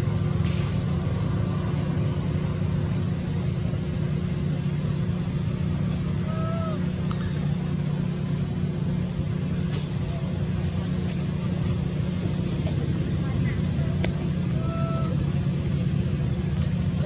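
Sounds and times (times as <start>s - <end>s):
low motor-like rumble: 0.0s - 17.0s.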